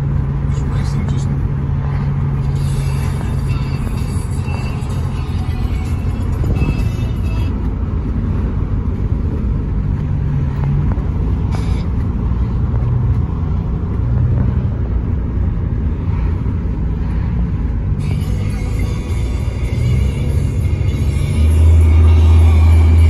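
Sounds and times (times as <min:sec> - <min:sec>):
truck cabin engine and road rumble: 0:00.0 - 0:23.0.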